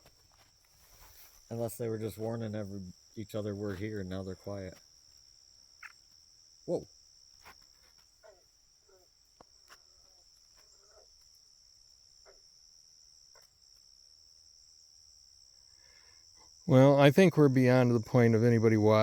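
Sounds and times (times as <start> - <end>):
high-pitched insect chorus: 0.3 - 19.0.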